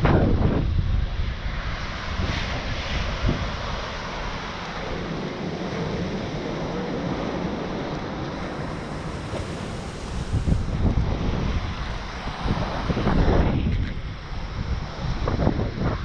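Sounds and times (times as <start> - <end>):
wind on microphone: 0.0 - 16.0
waves breaking on beach: 1.1 - 16.0.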